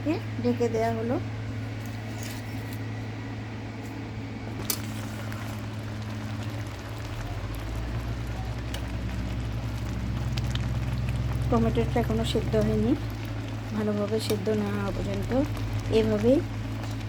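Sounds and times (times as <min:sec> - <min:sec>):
low hum: 0:00.0 - 0:17.0
pot bubbling and hissing: 0:00.0 - 0:17.0.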